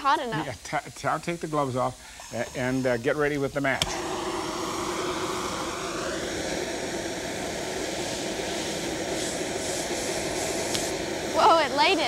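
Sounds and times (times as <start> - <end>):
blowtorch flame hissing: 0.0 - 12.0
steam jetting from a tube: 0.0 - 12.0.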